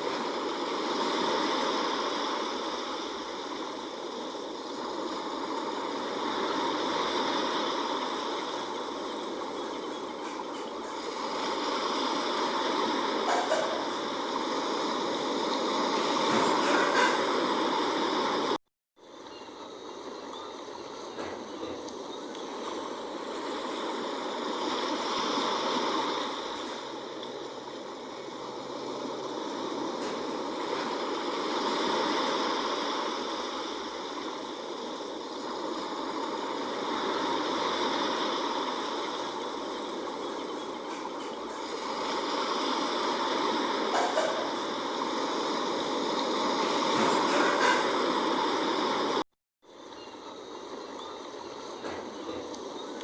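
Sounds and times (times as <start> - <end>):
sea waves washing: 0.0 - 53.0.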